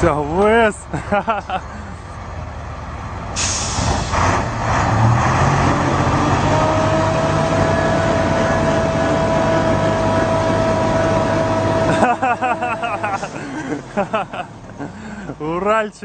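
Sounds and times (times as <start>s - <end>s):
diesel truck engines under load: 0.0s - 16.0s.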